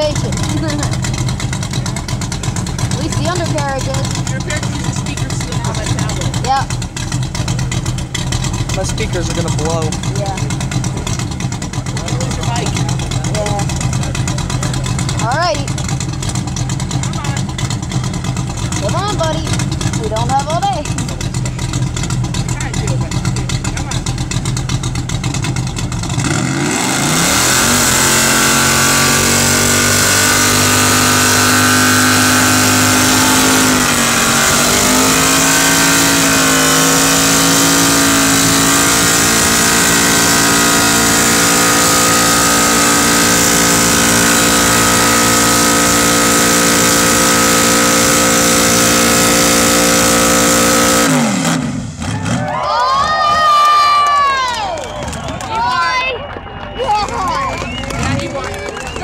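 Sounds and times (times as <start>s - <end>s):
car engine revving high: 0.0s - 54.4s.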